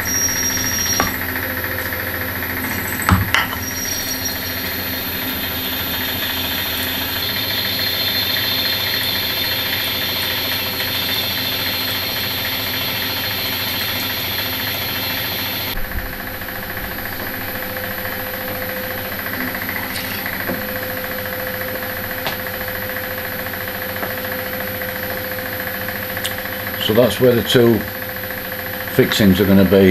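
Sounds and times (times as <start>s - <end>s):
machine tool motor hum: 0.0s - 29.9s.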